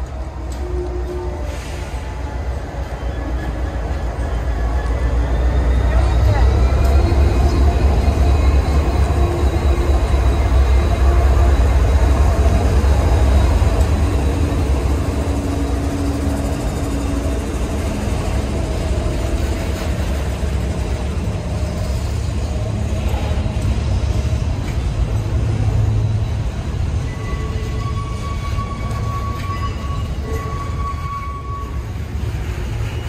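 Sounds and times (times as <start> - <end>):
diesel locomotive engine rumbling: 0.0 - 33.0
freight cars rolling on rails: 0.0 - 33.0.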